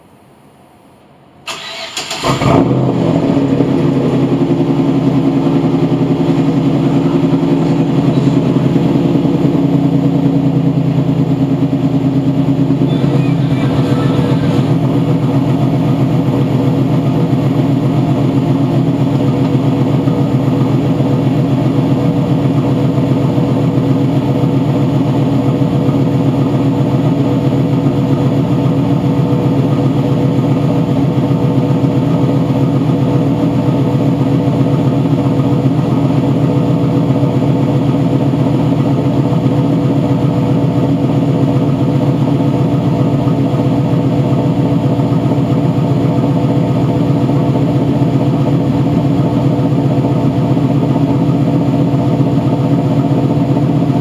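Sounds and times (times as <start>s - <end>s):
car engine idling: 0.8s - 54.0s.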